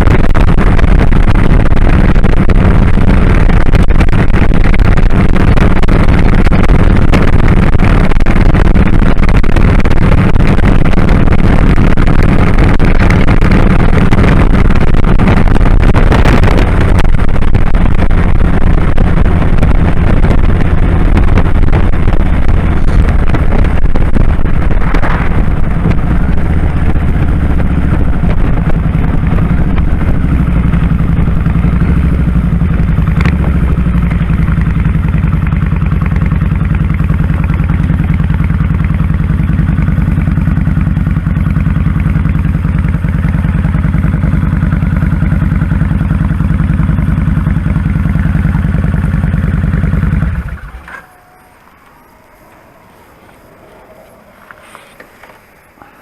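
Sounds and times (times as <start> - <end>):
motorcycle engine throbbing: 0.0 - 56.0.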